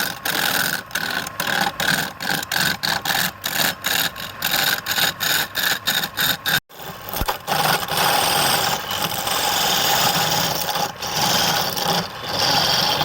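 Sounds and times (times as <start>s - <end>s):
cutting tool scraping wood: 0.0s - 13.0s
wood lathe turning: 0.0s - 13.0s.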